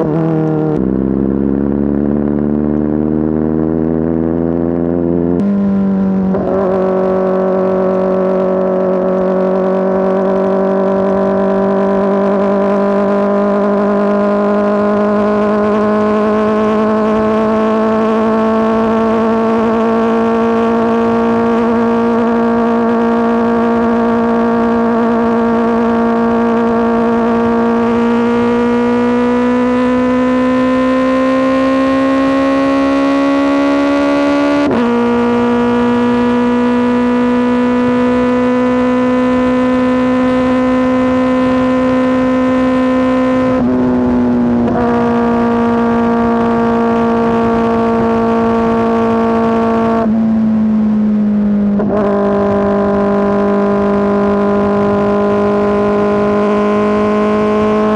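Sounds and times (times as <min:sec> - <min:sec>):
motorcycle engine running hard: 0:00.0 - 0:57.9.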